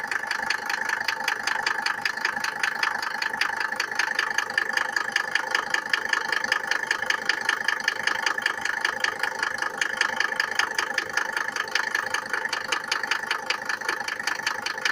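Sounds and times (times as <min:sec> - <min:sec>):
diesel engine idling with knock: 0:00.0 - 0:14.9.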